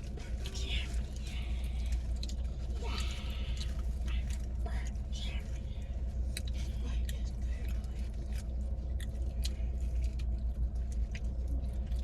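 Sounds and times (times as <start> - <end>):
close chewing: 0.0 - 12.0
low car hum: 0.0 - 12.0.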